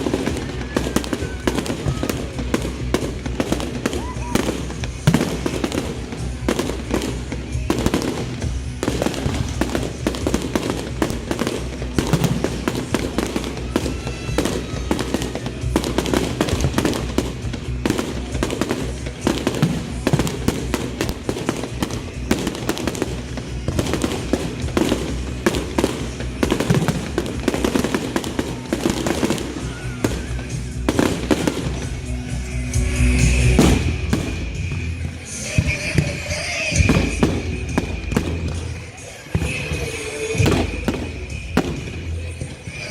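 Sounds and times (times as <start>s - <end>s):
fireworks bangs and crackles: 0.0s - 42.9s
music playing: 0.0s - 42.9s.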